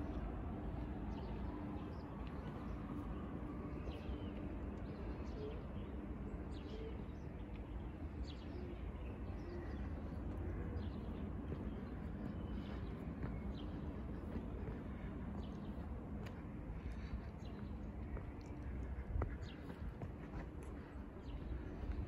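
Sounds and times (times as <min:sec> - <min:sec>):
low city rumble: 0:00.0 - 0:22.0
small birds chirping: 0:03.8 - 0:22.0.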